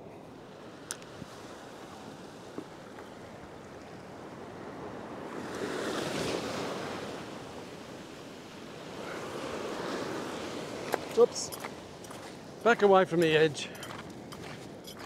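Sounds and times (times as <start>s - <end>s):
ocean waves washing over rocks: 0.4s - 13.8s.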